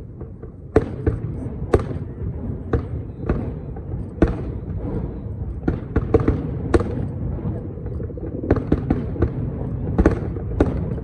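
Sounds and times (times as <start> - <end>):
continuous low rumble: 0.0 - 11.0.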